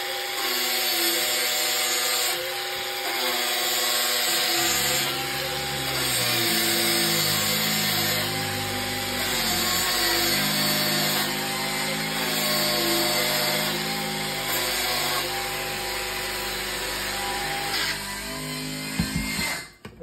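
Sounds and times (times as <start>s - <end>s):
angle grinder grinding pipe: 0.0s - 19.9s.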